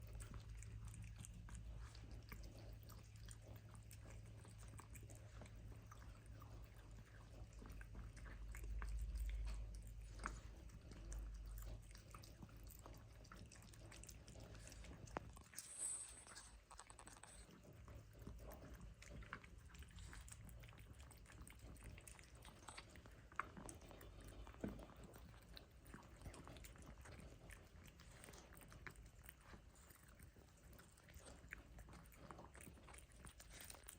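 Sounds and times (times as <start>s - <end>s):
cat chewing food: 0.0s - 33.9s
low steady hum: 0.0s - 33.9s.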